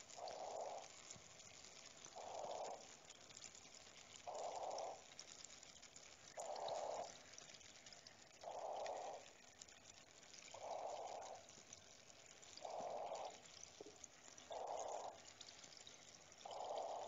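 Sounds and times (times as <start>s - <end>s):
water trickling and dripping: 0.0s - 17.0s.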